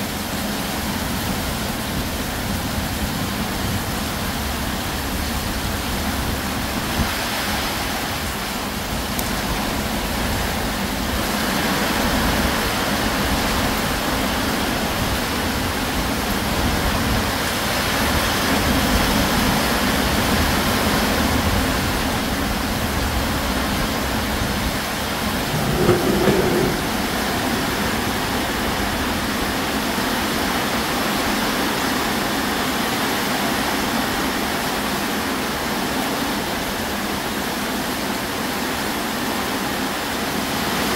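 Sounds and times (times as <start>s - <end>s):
heavy rain on metal roof: 0.0s - 40.9s.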